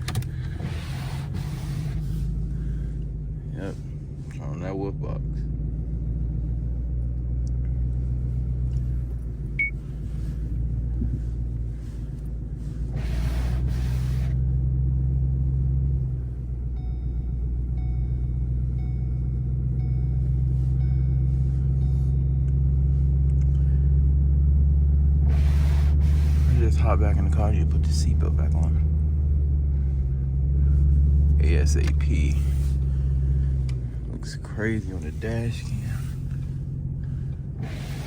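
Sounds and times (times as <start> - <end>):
car engine humming: 0.0 - 38.0.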